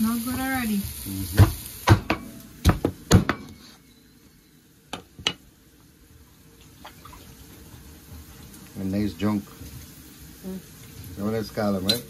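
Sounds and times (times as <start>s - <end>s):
faint sizzle: 0.0s - 12.0s.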